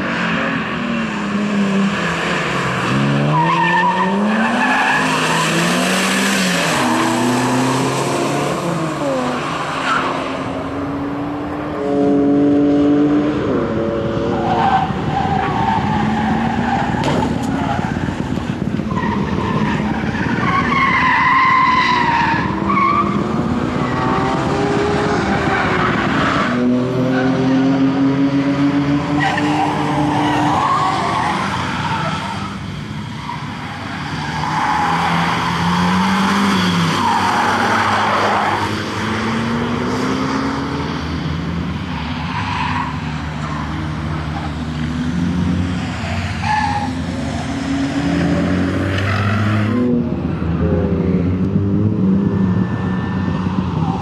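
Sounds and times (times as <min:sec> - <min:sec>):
car engine revving hard: 0:00.0 - 0:09.6, 0:15.7 - 0:32.2, 0:34.4 - 0:41.5, 0:43.9 - 0:54.0.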